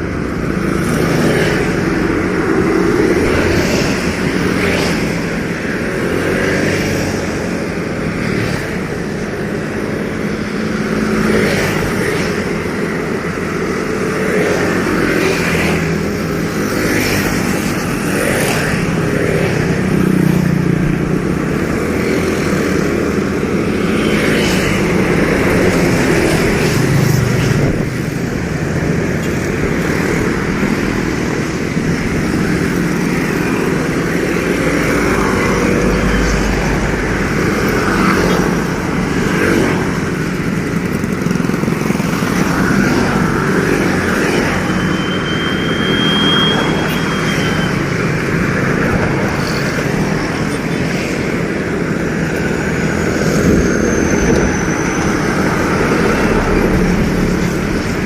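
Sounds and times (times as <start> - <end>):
steady rushing traffic noise: 0.0 - 58.0.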